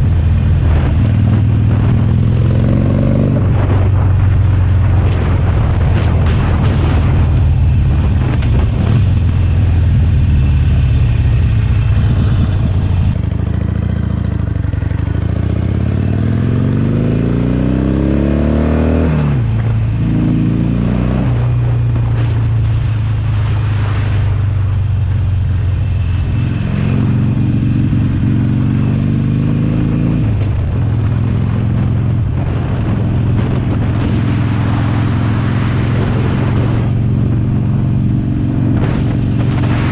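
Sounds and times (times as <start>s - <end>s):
wind rushing: 0.0s - 14.0s, 18.3s - 39.9s
motorcycle engine running: 0.0s - 18.5s, 24.4s - 39.9s.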